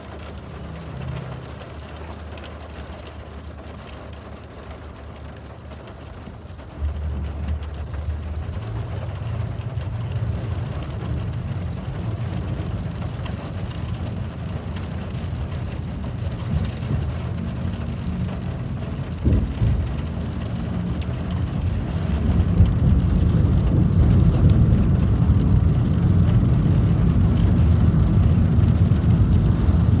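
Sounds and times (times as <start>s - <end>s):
rain falling steadily: 0.0s - 30.0s
deep rumble: 3.0s - 30.0s.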